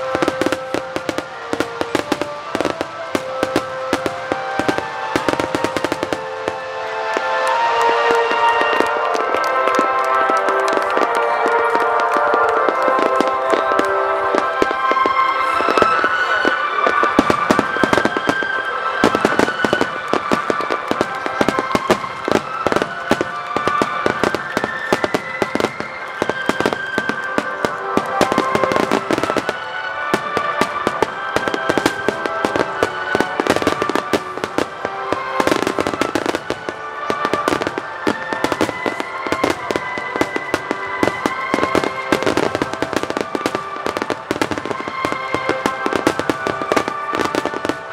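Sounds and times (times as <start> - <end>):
fireworks bursting and crackling: 0.0 - 47.9
music with sustained tones: 0.0 - 47.9.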